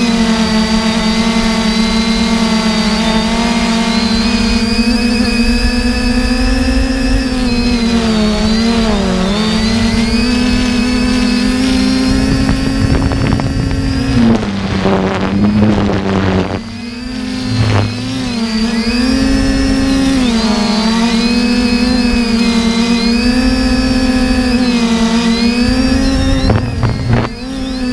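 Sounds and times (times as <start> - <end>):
drone propellers buzzing: 0.0 - 27.9
wind noise: 1.9 - 24.7, 25.3 - 27.9.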